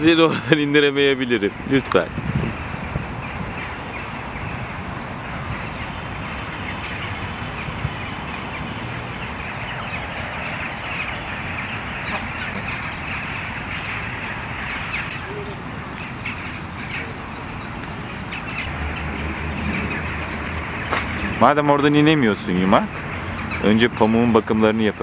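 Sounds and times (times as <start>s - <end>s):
parakeets calling: 0.8s - 25.0s.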